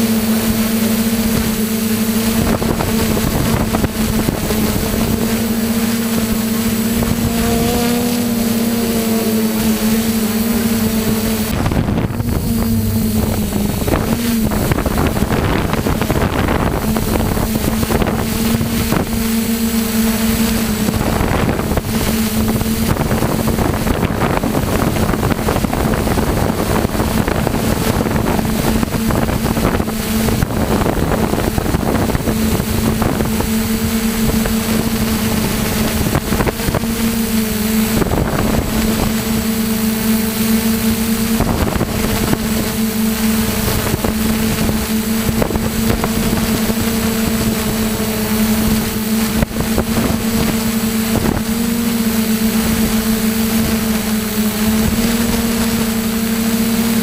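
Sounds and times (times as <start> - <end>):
drone propellers humming: 0.0 - 57.0
wind on microphone: 0.0 - 57.0.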